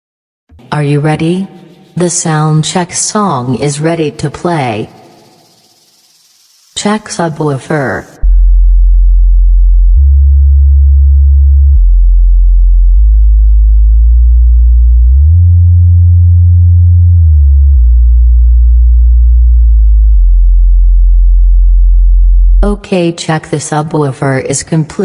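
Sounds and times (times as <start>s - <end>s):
deep sine test tones: 0.5s - 22.9s.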